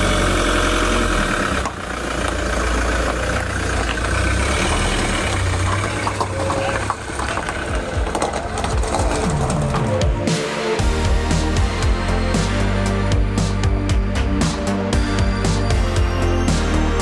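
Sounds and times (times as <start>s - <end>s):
van engine running at low revs: 0.0s - 17.0s.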